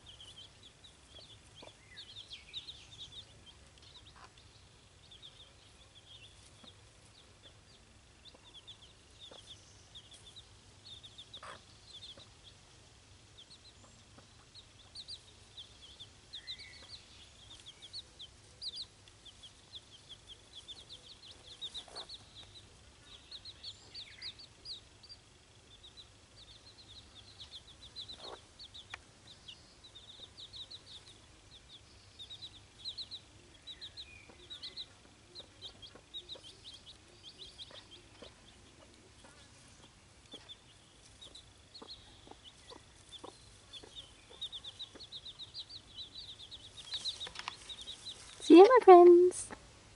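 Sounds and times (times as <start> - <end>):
chicks peeping: 0.0 - 49.8.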